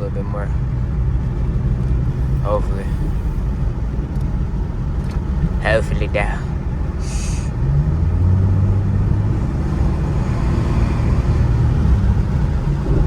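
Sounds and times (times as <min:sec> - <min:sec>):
car engine running: 0:00.0 - 0:13.0
road noise inside car: 0:00.0 - 0:13.0.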